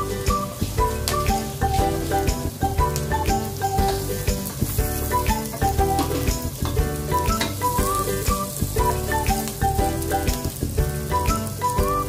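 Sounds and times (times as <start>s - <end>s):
background music with a beat: 0.0s - 12.0s
onions sizzling in a pot: 0.0s - 12.0s.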